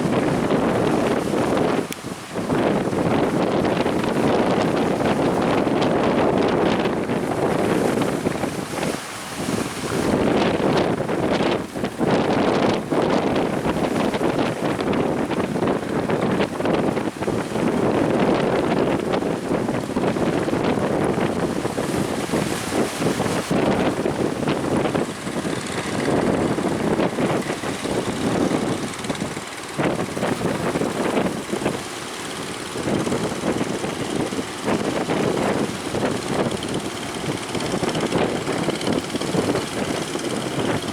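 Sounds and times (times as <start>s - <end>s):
boat engine running: 0.0s - 40.9s
wind buffeting microphone: 0.0s - 40.9s.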